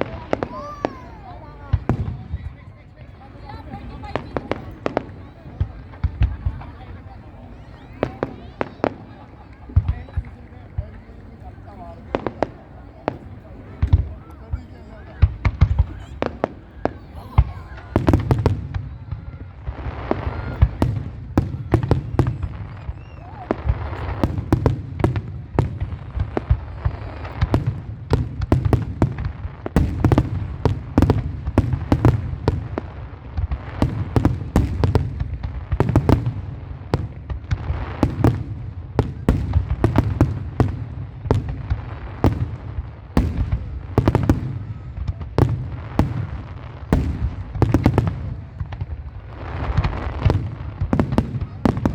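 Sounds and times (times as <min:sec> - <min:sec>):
fireworks cracks and bangs: 0:00.0 - 0:51.9.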